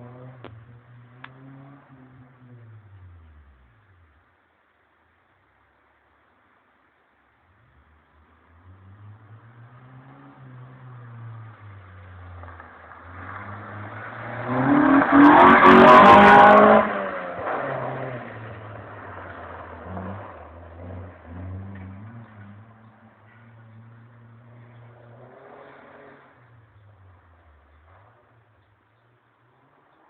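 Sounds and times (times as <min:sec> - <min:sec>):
car engine revving: 0:00.0 - 0:04.2, 0:07.6 - 0:28.7.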